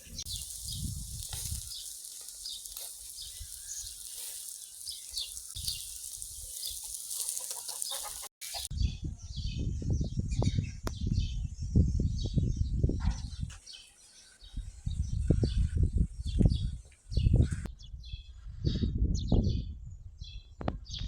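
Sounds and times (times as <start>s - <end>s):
small birds chirping: 0.0s - 18.4s.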